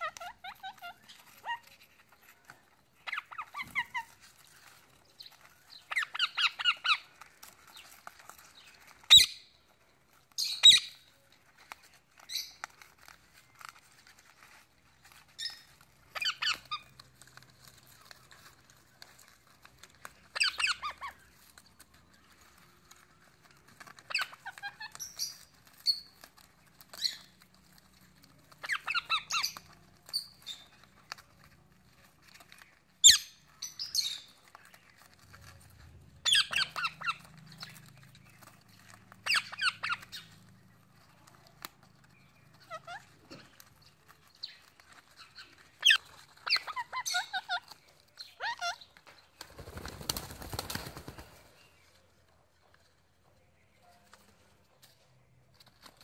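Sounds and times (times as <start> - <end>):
parrots squawking and chattering: 0.0 - 52.1.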